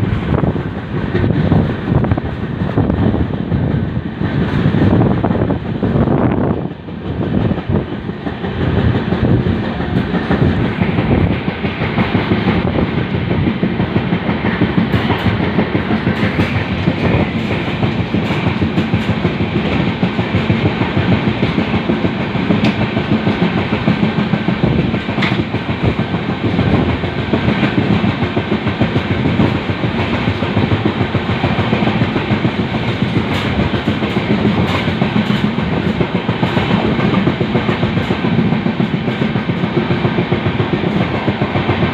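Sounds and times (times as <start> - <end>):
clicking and clatter over track: 0.0 - 41.9
train wheels rumbling on rails: 0.0 - 41.9.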